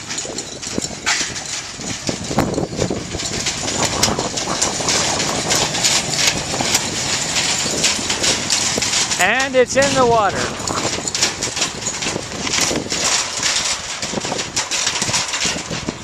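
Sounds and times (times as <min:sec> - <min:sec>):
noisy outdoor background: 0:00.0 - 0:16.0
vehicle engine running at low revs: 0:01.4 - 0:16.0.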